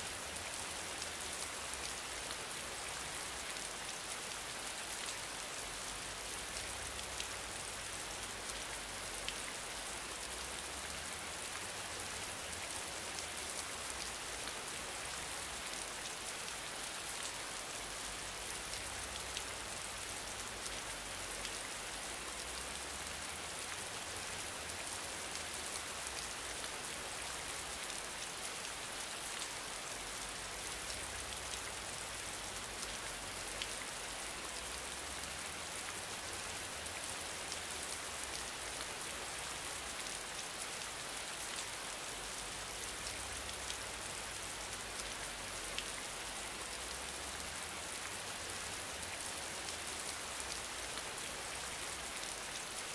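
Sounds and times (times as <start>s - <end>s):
rain-like hiss: 0.0s - 52.9s.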